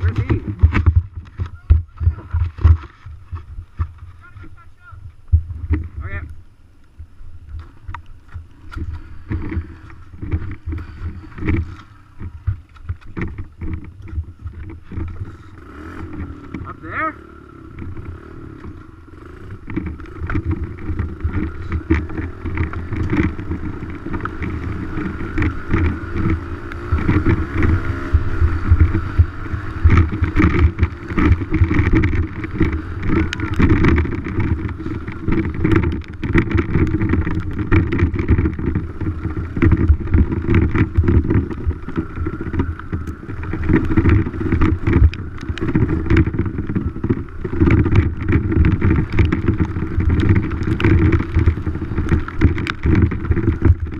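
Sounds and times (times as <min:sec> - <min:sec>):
dirt bike engine: 0:00.0 - 0:53.9
knocks and rattles over rough ground: 0:00.0 - 0:53.9.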